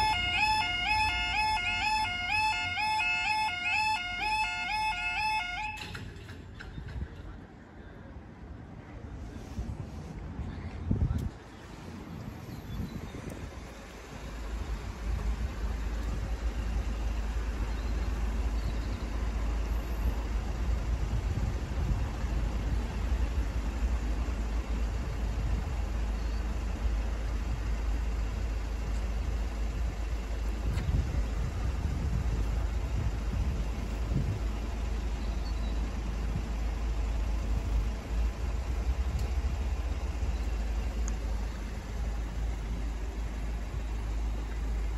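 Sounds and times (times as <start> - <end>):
cars idling: 0.0 - 44.9
road traffic rumble: 0.0 - 44.9.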